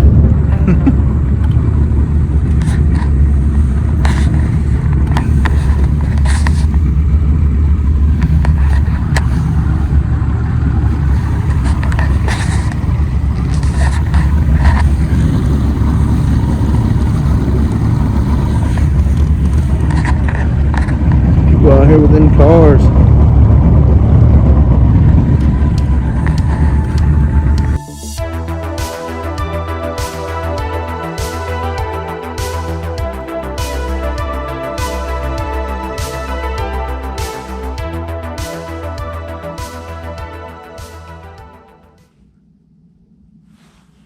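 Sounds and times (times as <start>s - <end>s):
outboard motor droning: 0.0s - 44.0s.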